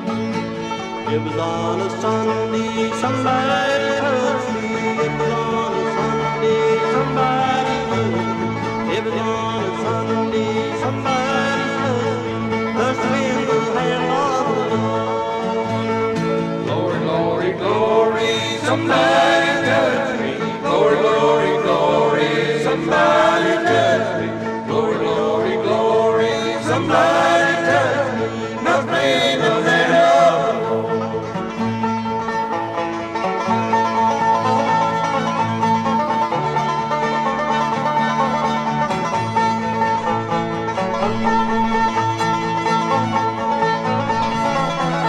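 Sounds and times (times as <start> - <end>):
banjo: 0.0 - 45.0
bluegrass band playing: 0.0 - 45.0.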